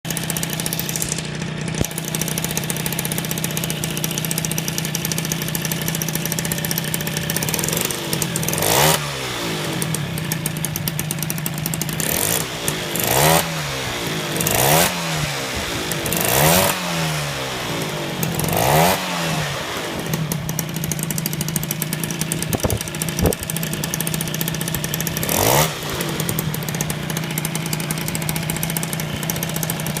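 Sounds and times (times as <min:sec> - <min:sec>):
moped engine idling and revving: 0:00.0 - 0:30.0.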